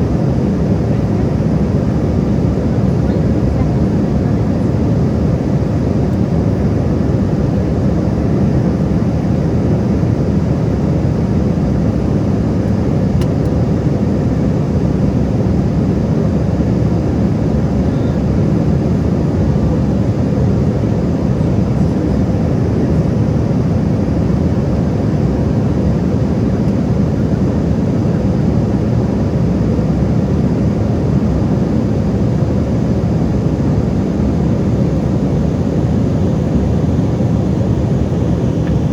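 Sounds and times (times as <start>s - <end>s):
airliner engines rumbling: 0.0s - 38.9s.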